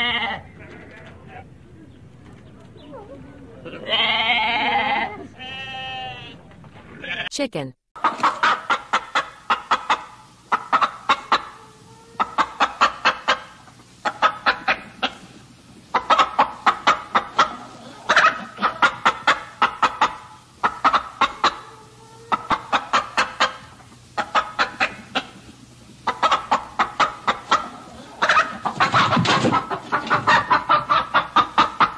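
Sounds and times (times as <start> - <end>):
chickens clucking: 0.0 - 7.0, 8.0 - 31.9.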